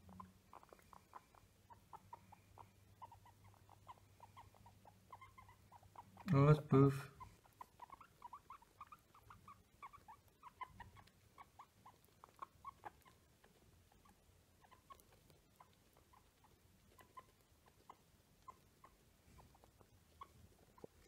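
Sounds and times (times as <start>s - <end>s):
guinea pig squeaking: 0.0s - 21.0s.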